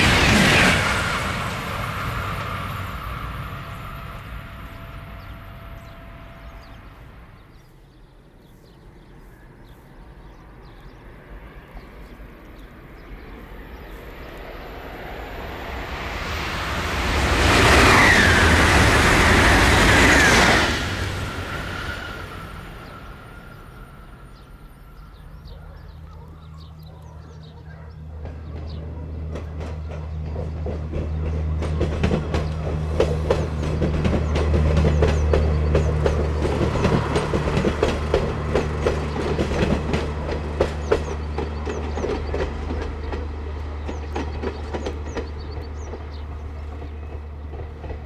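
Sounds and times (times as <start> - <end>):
high-speed trains rushing past: 0.0 - 48.0.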